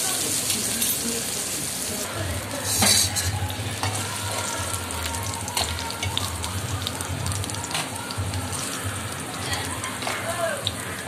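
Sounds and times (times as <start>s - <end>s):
coconut sizzling in oil: 0.0s - 11.0s.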